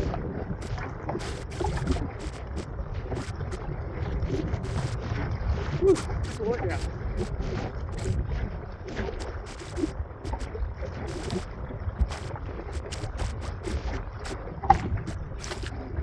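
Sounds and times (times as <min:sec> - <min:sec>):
water slapping against kayak hull: 0:00.0 - 0:16.0
wind buffeting microphone: 0:00.0 - 0:16.0.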